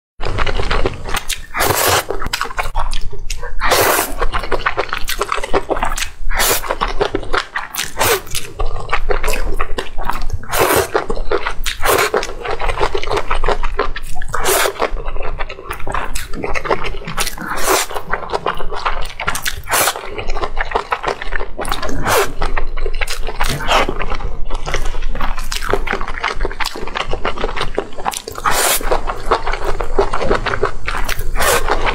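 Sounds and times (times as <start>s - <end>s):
chewing with mouth clicks: 0.2s - 31.9s
noodles being slurped: 0.3s - 31.9s.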